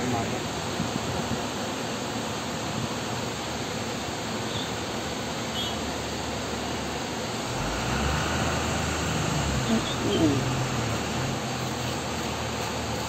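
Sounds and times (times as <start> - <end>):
hissing background noise: 0.0 - 13.0.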